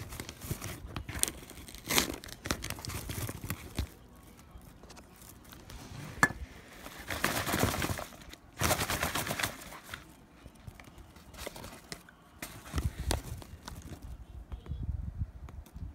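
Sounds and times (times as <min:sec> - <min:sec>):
paper popcorn bag crinkling: 0:00.0 - 0:05.8, 0:06.7 - 0:14.2.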